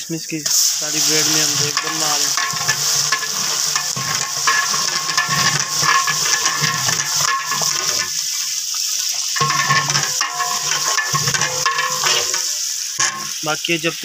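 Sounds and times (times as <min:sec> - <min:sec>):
food sizzling in a pot: 0:00.0 - 0:14.0
metal ladle stirring: 0:01.0 - 0:08.2, 0:09.4 - 0:13.4.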